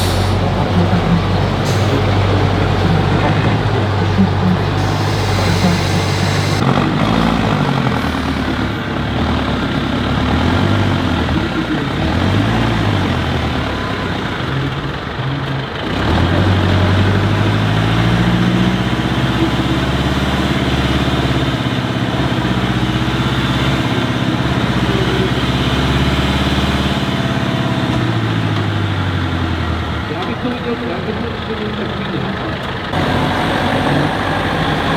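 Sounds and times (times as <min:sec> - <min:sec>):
heavy truck engine running: 0:00.0 - 0:34.9.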